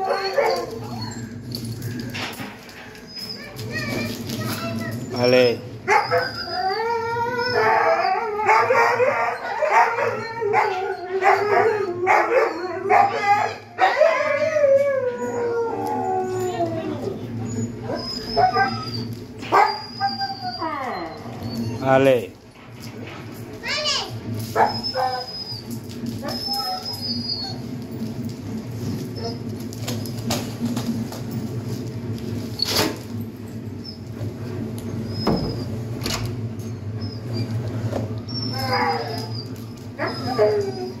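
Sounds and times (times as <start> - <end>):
dog howling and whining: 0.0 - 22.3, 24.4 - 30.2, 34.9 - 41.0.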